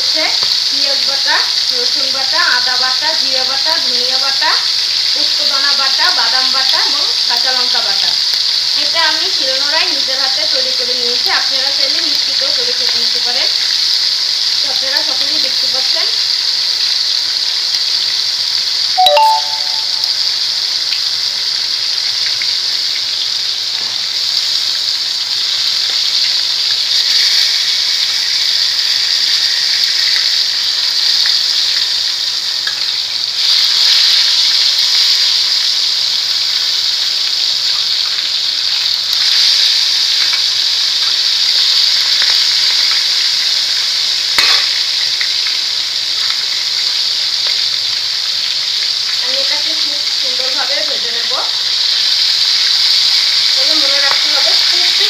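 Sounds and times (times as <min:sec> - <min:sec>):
chicken sizzling in oil: 0:00.0 - 0:55.0.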